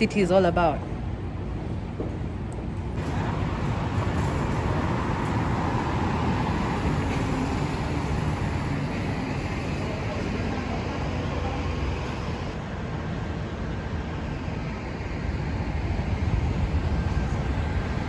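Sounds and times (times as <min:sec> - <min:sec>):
rumble of traffic: 0:00.0 - 0:18.0.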